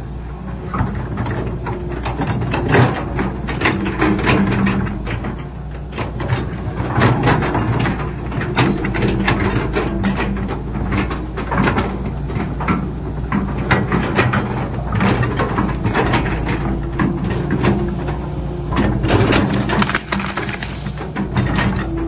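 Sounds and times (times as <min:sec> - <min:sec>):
diesel engine running: 0:00.0 - 0:22.0
machine clanks and knocks: 0:00.4 - 0:22.0.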